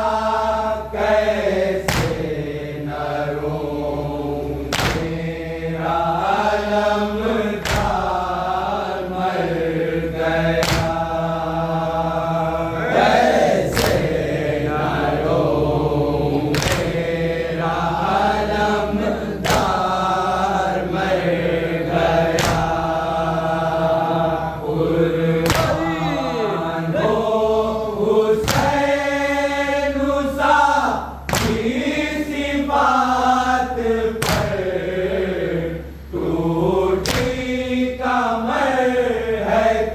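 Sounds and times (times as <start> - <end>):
group chanting in chorus: 0.0 - 39.9
rhythmic chest-beating slaps: 0.0 - 39.9
steady low hum: 0.0 - 39.9.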